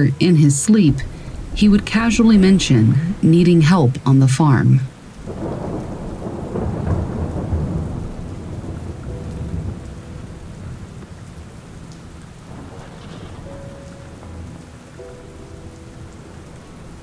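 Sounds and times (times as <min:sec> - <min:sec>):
steady rain: 0:00.0 - 0:17.0
thunder rumble: 0:00.3 - 0:17.0.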